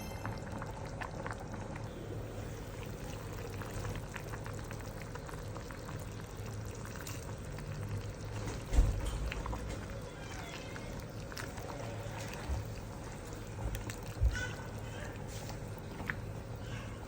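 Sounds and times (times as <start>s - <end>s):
liquid bubbling in a pot: 0.0s - 17.0s.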